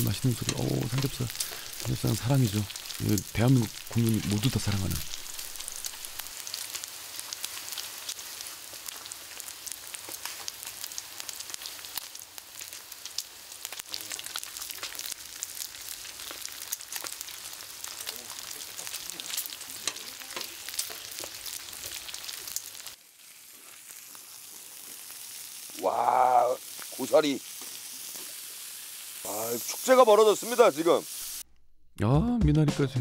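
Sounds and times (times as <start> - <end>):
meat sizzling on a griddle: 0.0 - 31.4.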